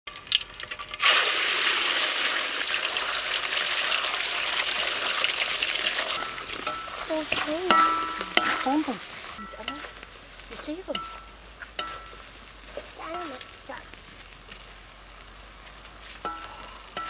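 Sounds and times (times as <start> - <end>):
eggs sizzling in hot oil: 0.1 - 17.0.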